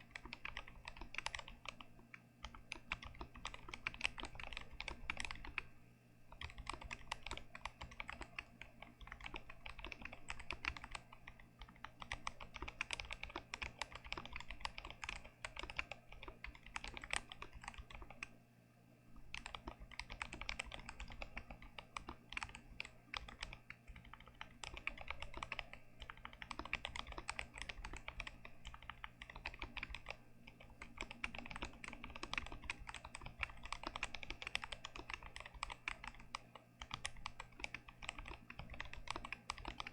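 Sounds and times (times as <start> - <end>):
mechanical keyboard typing: 0.0 - 5.7, 6.3 - 18.3, 19.3 - 39.9.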